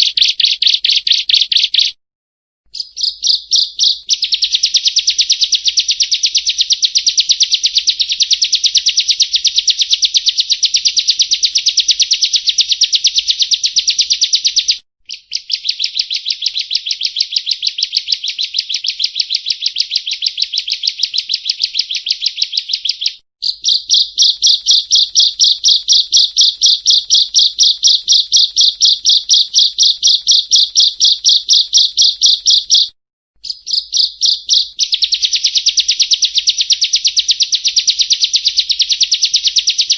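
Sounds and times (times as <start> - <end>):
bird calling repeated high notes: 0.0 - 2.0, 2.7 - 39.9.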